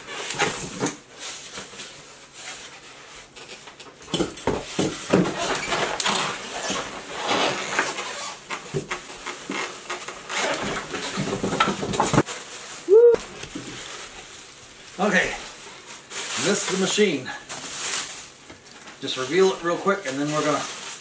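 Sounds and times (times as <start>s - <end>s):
foam and cardboard scraping: 0.0s - 3.4s, 4.5s - 18.4s.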